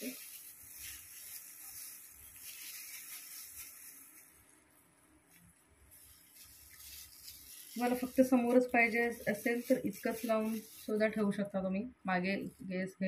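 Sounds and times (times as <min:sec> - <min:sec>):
plastic gloves rustling: 0:00.0 - 0:12.9.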